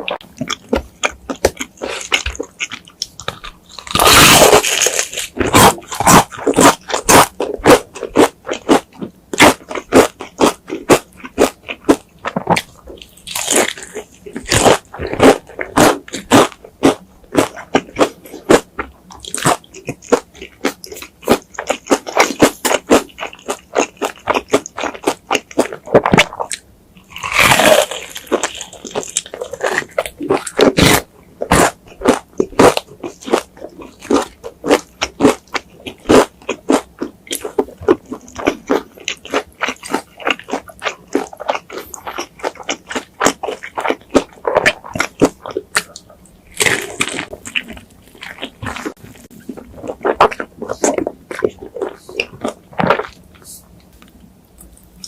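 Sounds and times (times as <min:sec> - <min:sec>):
chewing crunchy food: 0:00.0 - 0:55.0.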